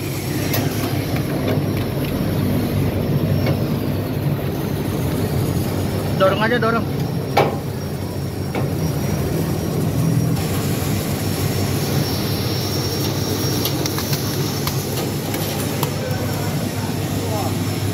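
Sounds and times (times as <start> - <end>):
washing machine running: 0.0 - 17.9.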